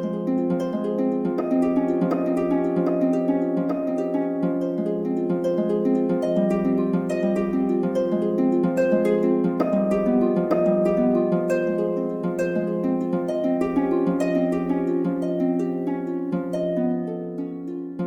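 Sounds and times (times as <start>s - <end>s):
plucked harp-like music: 0.0s - 18.0s.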